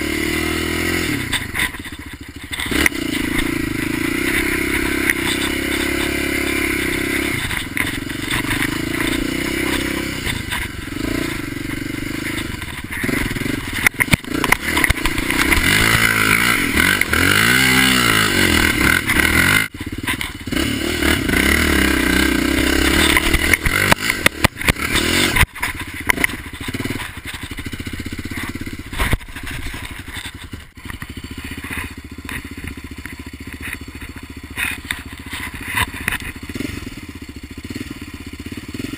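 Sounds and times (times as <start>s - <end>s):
quad bike engine revving: 0.0s - 38.9s.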